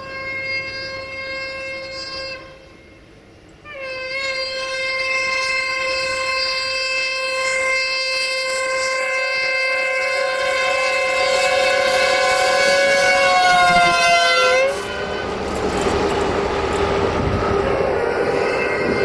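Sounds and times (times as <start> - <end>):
locomotive air horn blast: 0.0 - 19.0
locomotive running noise: 0.0 - 19.0.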